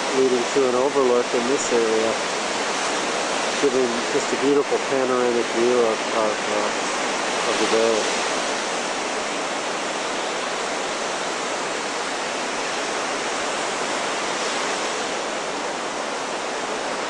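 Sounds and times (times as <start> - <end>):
surf breaking on rocky shore: 0.0 - 17.0.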